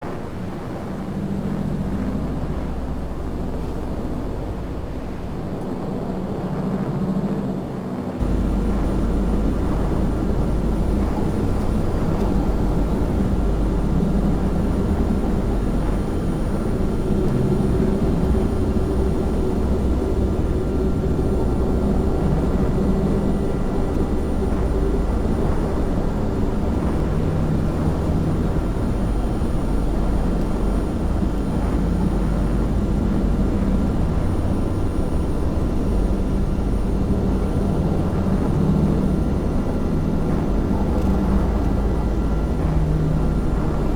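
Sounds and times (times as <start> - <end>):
engine drone with low rumble: 0.0 - 43.9.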